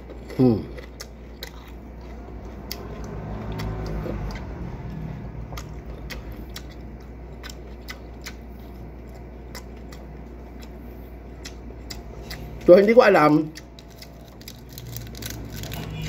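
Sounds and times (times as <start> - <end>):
crunchy chewing: 0.0 - 16.0
steady low hum: 0.0 - 16.0.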